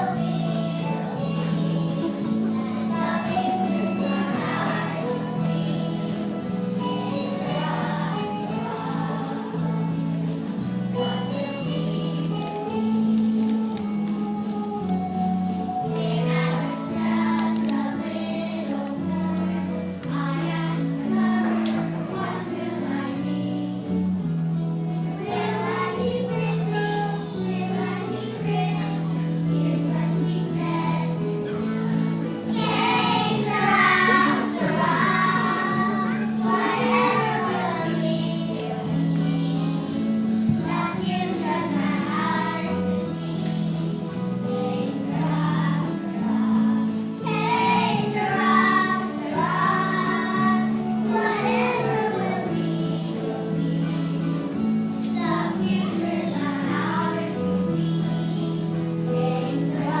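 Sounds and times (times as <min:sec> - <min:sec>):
musical accompaniment with bass line: 0:00.0 - 1:00.0
young voices singing: 0:00.0 - 1:00.0.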